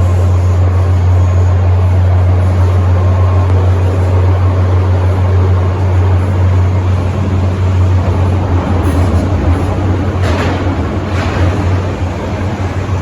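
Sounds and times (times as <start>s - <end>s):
loud low train hum: 0.0s - 13.0s
rail and running noise: 0.0s - 13.0s.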